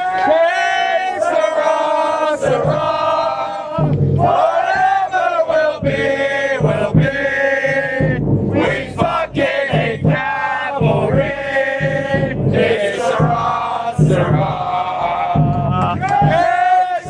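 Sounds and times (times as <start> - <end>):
football crowd chanting: 0.0 - 17.0.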